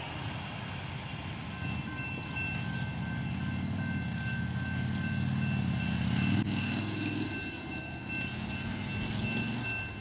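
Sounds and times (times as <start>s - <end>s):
diesel engine rumble: 0.0s - 10.0s
railroad crossing bells: 0.0s - 10.0s.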